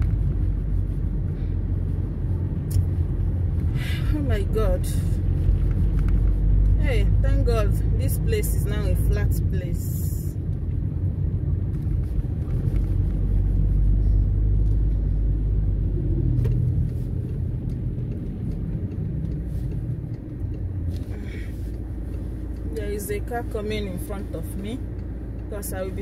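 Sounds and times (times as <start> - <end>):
car engine rumble inside cabin: 0.0 - 26.0
tyres on snowy road: 0.0 - 26.0.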